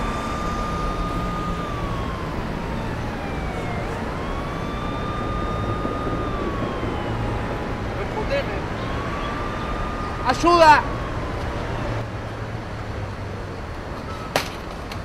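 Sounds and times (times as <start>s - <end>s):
siren wailing: 0.0s - 12.1s
street noise: 0.0s - 15.0s.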